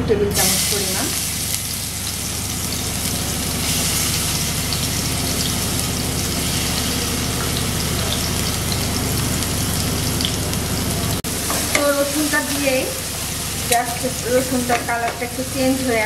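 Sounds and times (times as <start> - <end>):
garlic sizzling in hot oil: 0.3 - 16.0.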